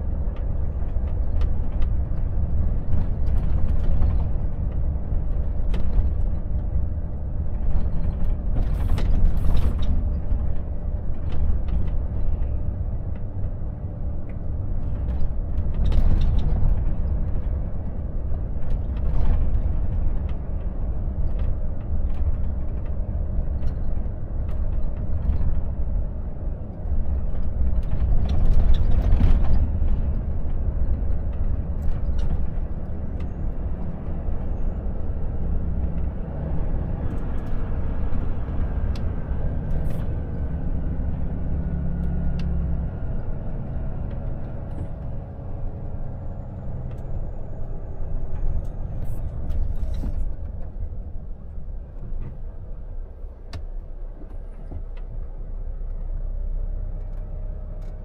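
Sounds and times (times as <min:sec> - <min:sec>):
cab rattles and creaks: 0:00.0 - 0:56.1
truck engine and road rumble: 0:00.0 - 0:58.0.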